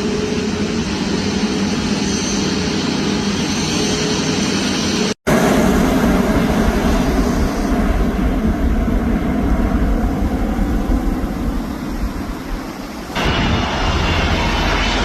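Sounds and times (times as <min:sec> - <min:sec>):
another aircraft engine: 0:00.0 - 0:15.0
light aircraft engine and propeller: 0:00.0 - 0:15.0.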